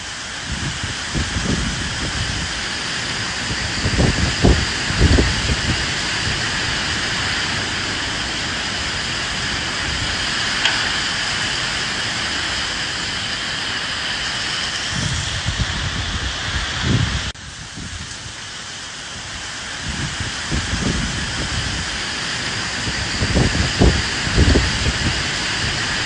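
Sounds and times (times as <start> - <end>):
rain hissing: 0.0 - 26.0
wind gusts: 0.0 - 26.0.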